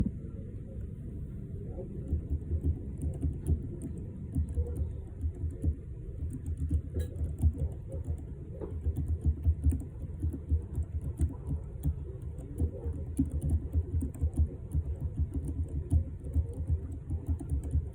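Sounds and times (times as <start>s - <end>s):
keyboard typing: 1.7s - 17.9s.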